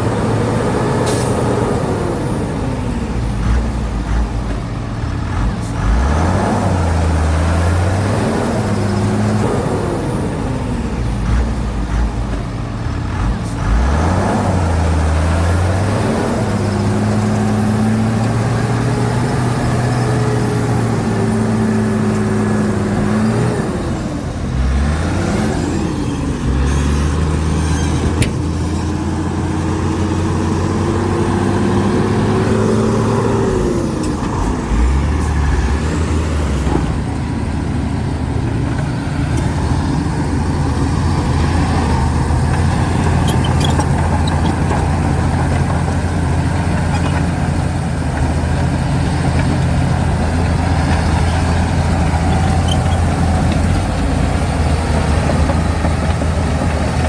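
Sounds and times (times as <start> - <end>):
bulldozer diesel engine revving: 0.0 - 57.0.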